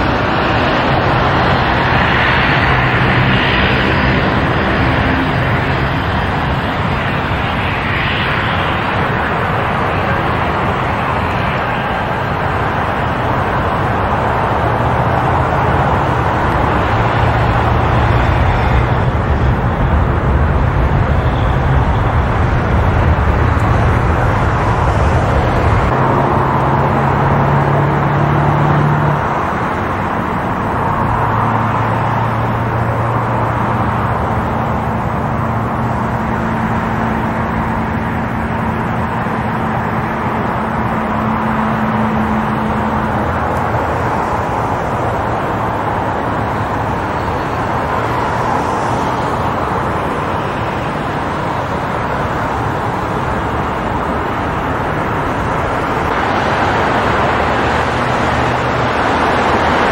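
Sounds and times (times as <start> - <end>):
airliner engines at takeoff: 0.0 - 59.9.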